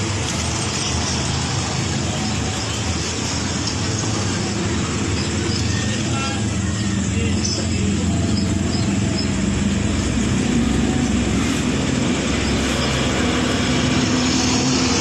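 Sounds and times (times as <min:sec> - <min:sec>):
motor rumble: 0:00.0 - 0:15.0.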